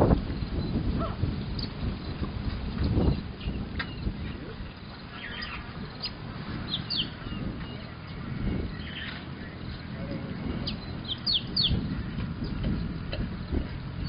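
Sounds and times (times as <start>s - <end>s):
outdoor background rumble: 0.0s - 14.0s
small birds chirping: 0.3s - 14.0s.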